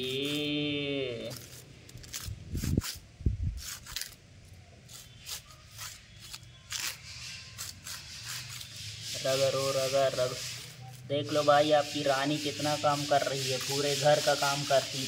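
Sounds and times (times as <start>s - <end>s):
twigs scraping concrete floor: 0.0s - 15.0s.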